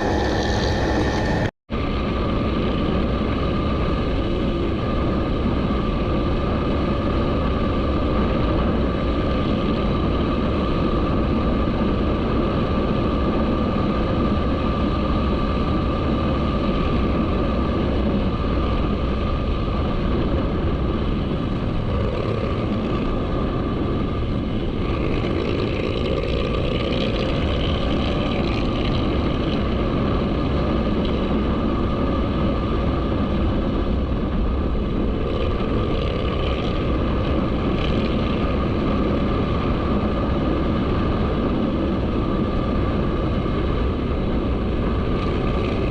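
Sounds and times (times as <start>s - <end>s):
motorcycle engine running: 0.0s - 1.5s, 2.8s - 45.9s.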